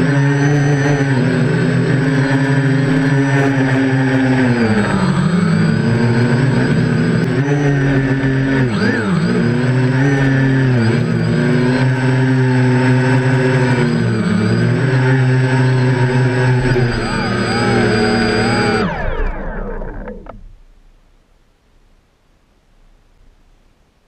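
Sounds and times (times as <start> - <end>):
drone propellers whining: 0.0 - 20.6.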